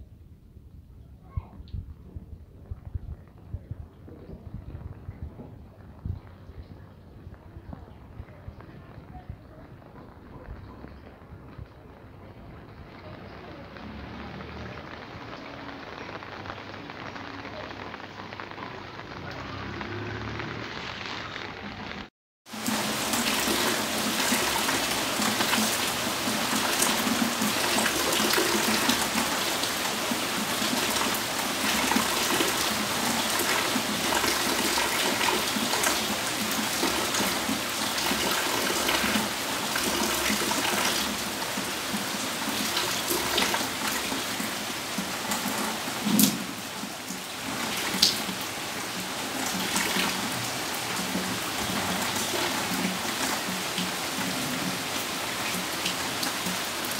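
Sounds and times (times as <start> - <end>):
rain falling on tiles: 0.0 - 56.9.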